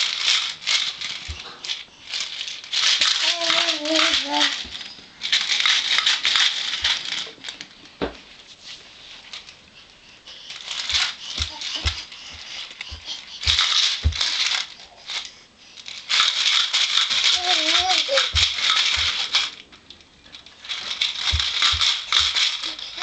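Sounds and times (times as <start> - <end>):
toy rattle shaking: 0.0 - 7.6, 10.3 - 23.0.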